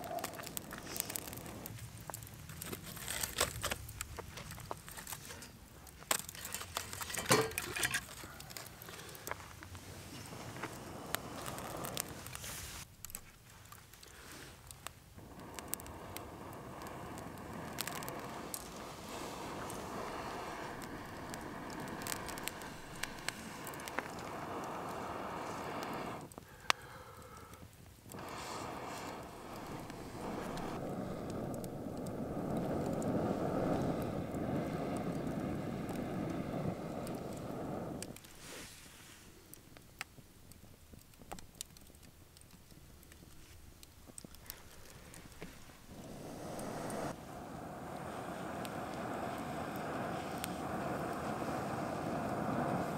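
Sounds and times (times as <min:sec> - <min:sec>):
fire rushing hiss: 0:00.0 - 0:12.9, 0:13.9 - 0:39.6, 0:44.1 - 0:52.9
campfire crackling and popping: 0:00.0 - 0:52.9.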